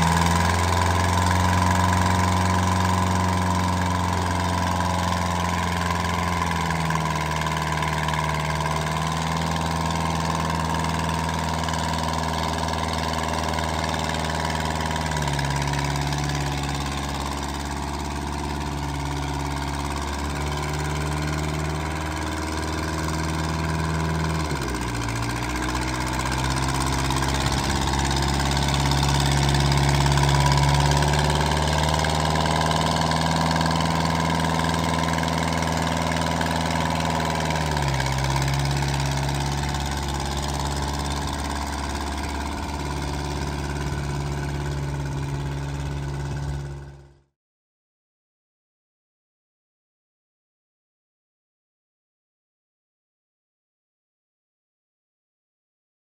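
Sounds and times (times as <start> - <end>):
backhoe engine running: 0.0 - 47.3.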